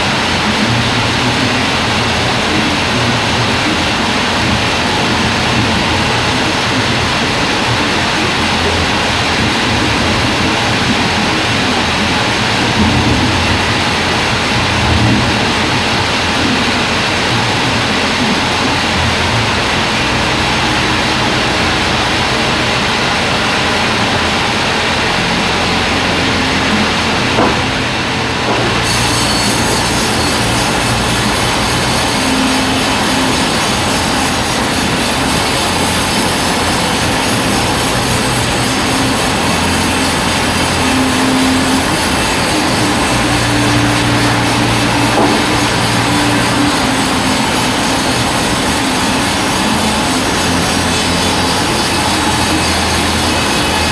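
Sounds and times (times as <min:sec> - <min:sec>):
band sawmill cutting timber: 0:00.0 - 0:53.9.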